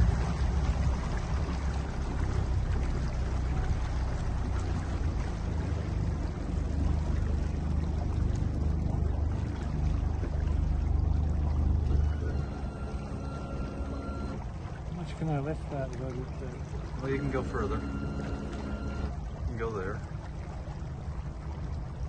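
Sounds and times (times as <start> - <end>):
boat engine running: 0.0 - 22.0
water splashing along hull: 0.0 - 22.0.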